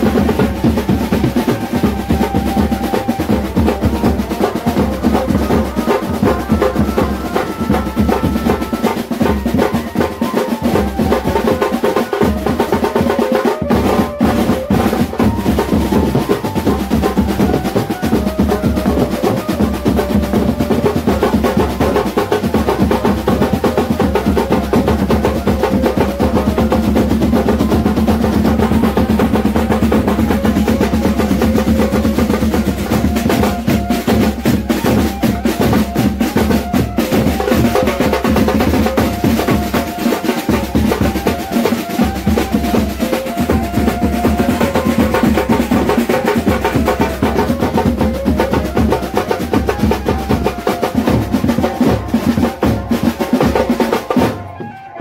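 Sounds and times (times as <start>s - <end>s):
held melody line: 0.0s - 55.0s
snare drum rolls: 0.0s - 55.0s.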